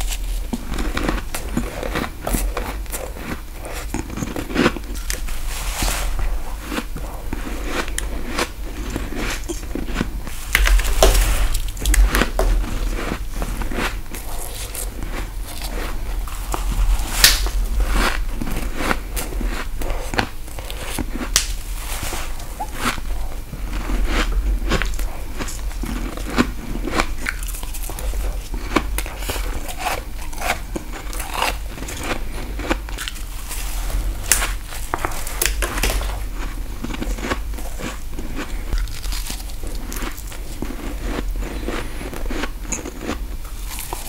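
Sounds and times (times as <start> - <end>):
crunching frost ice: 0.0 - 44.0.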